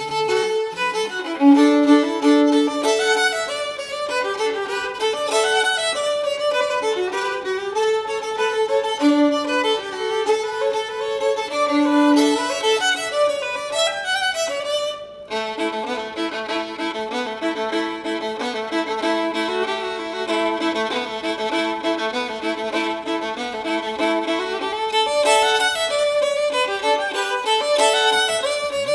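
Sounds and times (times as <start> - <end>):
solo violin: 0.0 - 28.9.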